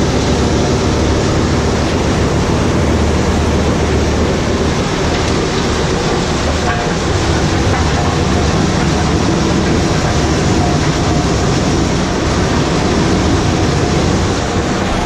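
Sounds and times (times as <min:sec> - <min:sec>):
low engine hum: 0:00.0 - 0:15.0
wood chipper chipping logs: 0:00.0 - 0:15.0.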